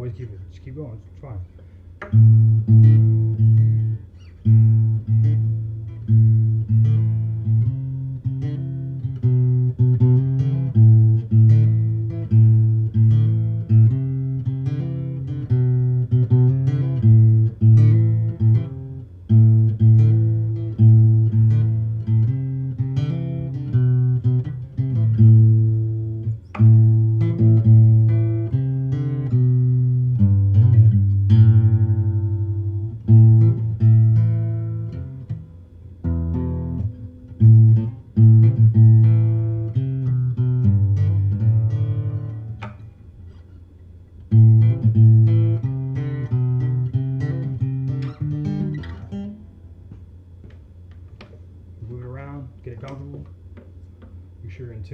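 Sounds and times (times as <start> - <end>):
acoustic guitar picked chords: 1.6 - 54.3.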